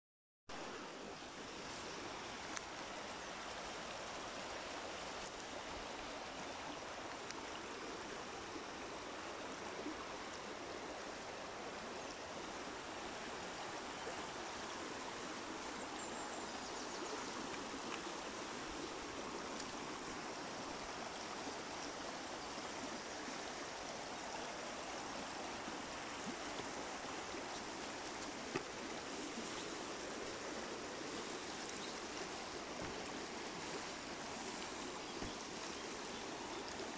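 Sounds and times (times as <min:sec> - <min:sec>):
river rushing over rocks: 0:00.6 - 0:36.9.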